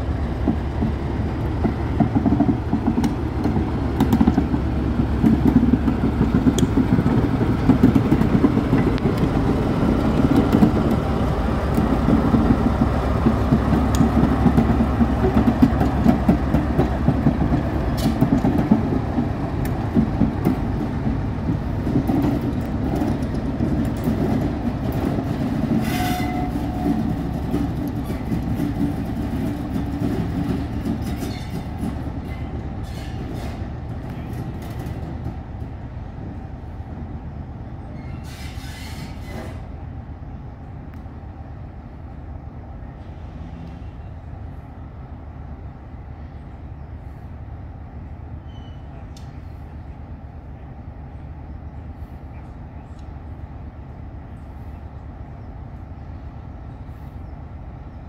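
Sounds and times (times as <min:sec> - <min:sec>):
diesel locomotive engine rumbling: 0:00.0 - 0:58.0.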